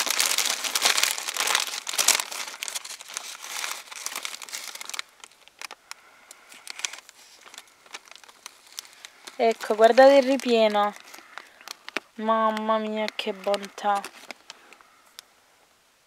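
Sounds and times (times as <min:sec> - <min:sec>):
paper wrapping crinkling: 0:00.0 - 0:15.2.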